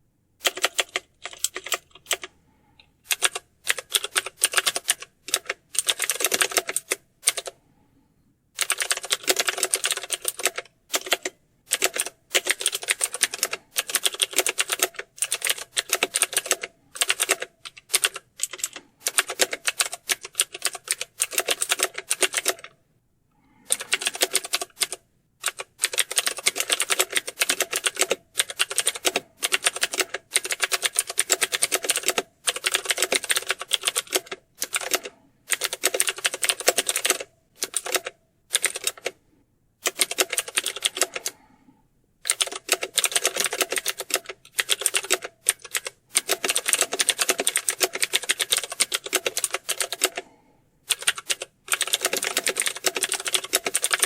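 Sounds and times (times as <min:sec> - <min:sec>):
keyboard typing: 0:00.4 - 0:07.6, 0:08.6 - 0:22.8, 0:23.4 - 0:39.2, 0:39.8 - 0:41.4, 0:42.2 - 0:54.0.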